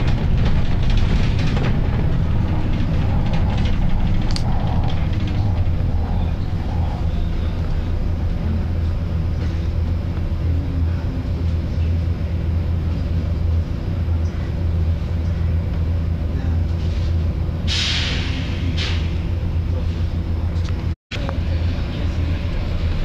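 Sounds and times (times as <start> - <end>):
bus diesel engine idling: 0.0 - 23.0.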